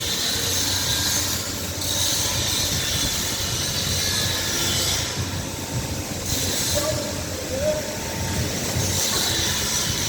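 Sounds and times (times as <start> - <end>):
mechanical hiss and low hum: 0.0 - 10.0.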